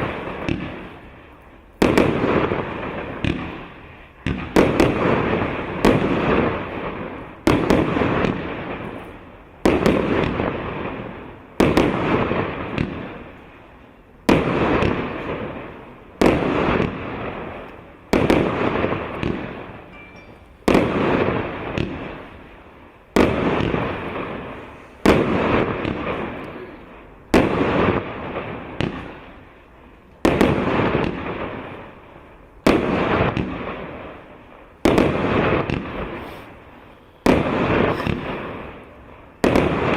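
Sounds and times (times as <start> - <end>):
firework bangs with crackle: 0.0 - 39.9.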